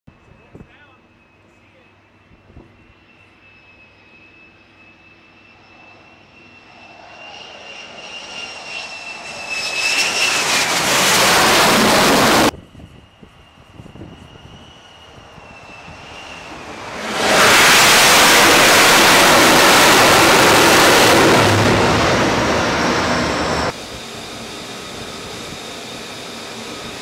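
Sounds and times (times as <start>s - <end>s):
jet engine roar: 0.1s - 27.0s.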